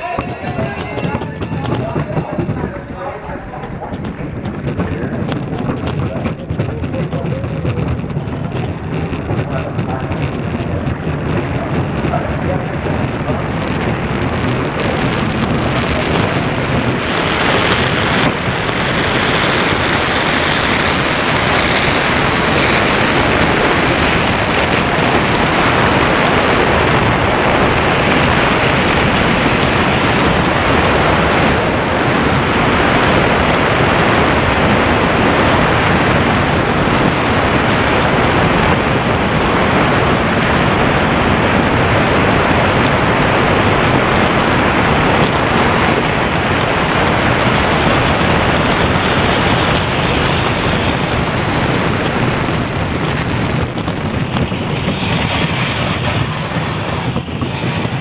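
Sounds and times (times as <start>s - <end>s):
bobsleigh runners scraping ice: 0.0s - 58.0s
rushing wind: 0.0s - 58.0s.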